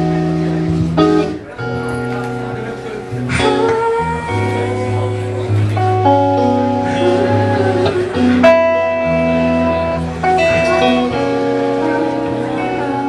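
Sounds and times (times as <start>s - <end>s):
bass line: 0.0s - 13.0s
drums: 0.0s - 13.0s
electric guitar: 0.0s - 13.0s.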